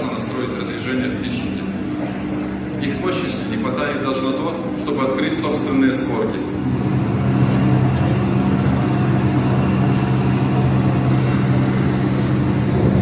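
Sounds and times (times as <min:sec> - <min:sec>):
exhaust fans humming: 0:00.0 - 0:13.0.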